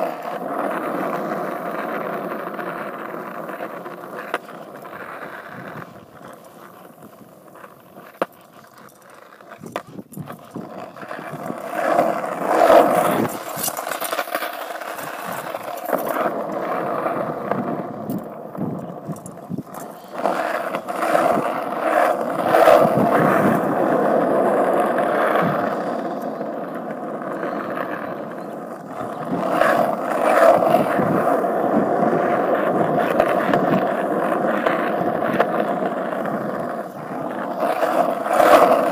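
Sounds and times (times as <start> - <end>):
skateboard wheels rolling on asphalt: 0.0 - 38.9.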